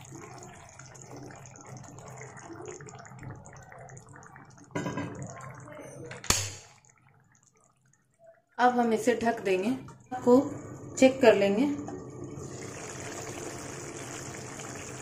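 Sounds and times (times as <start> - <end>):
water pouring into a pan: 0.0 - 15.0.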